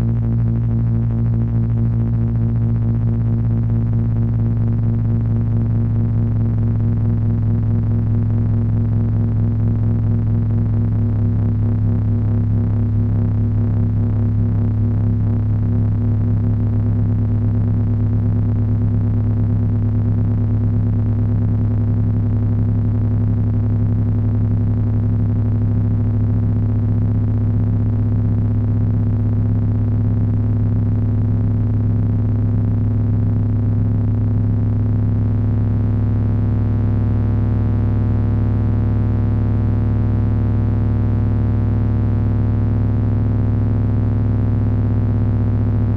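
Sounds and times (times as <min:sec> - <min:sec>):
dense low electronic drone: 0:00.0 - 0:45.9.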